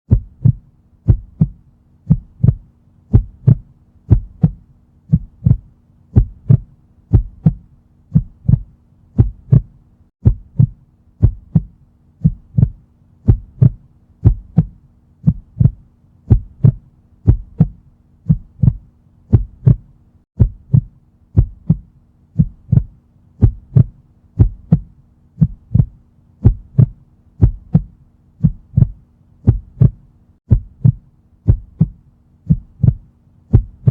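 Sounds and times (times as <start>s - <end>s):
faint low hum: 0.1s - 33.9s
heartbeat thumps: 0.1s - 33.9s.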